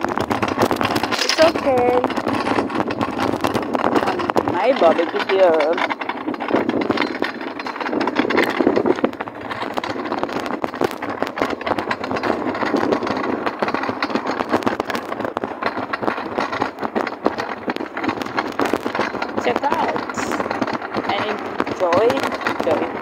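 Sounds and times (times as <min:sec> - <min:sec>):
shopping trolley rattling over paving: 0:00.0 - 0:23.0.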